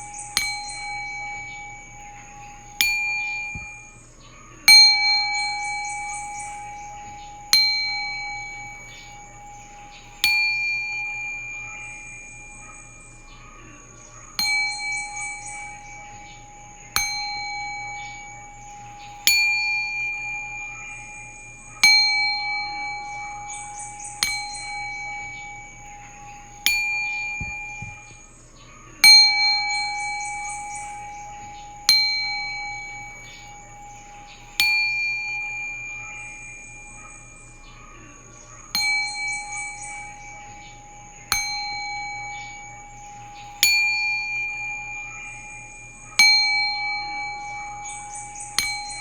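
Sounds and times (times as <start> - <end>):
faint low hum: 0.0 - 49.0
singing bowl ringing: 0.0 - 49.0.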